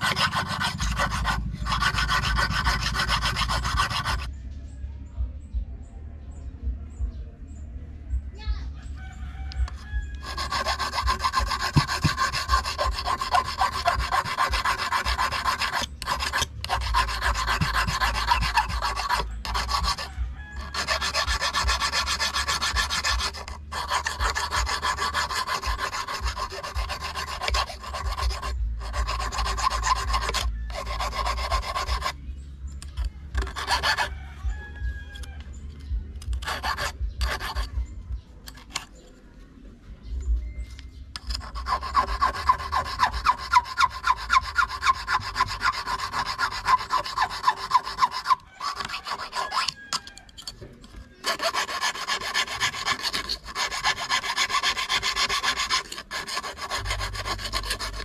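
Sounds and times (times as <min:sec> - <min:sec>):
wire scraping on file: 0:00.0 - 0:04.3, 0:09.5 - 0:37.8, 0:38.4 - 0:39.2, 0:40.8 - 0:58.0.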